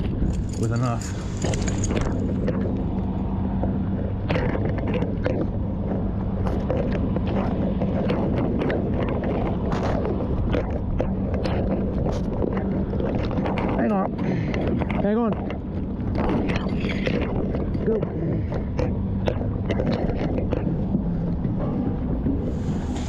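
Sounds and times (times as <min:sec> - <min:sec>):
diesel engine humming: 0:00.0 - 0:23.0.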